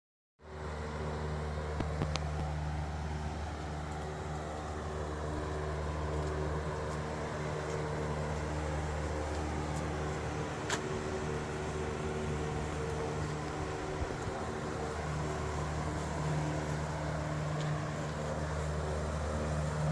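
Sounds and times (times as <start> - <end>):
machine humming: 0.4 - 19.9.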